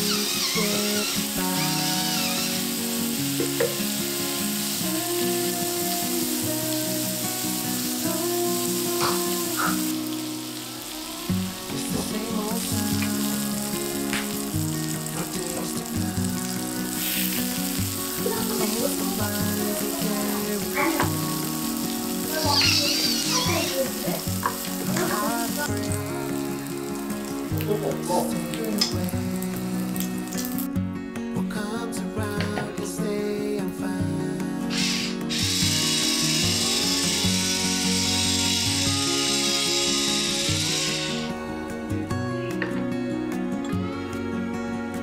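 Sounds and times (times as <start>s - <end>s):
meat sizzling on griddle: 0.0s - 30.7s, 34.6s - 41.8s
soft background music: 0.0s - 45.0s.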